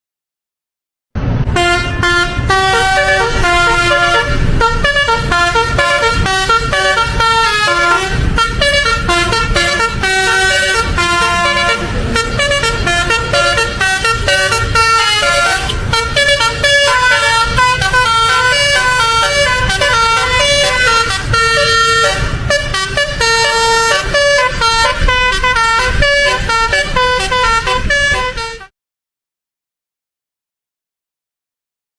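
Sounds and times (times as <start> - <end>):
low rumble: 1.2 - 28.2
musical air horns playing tune: 1.5 - 28.7.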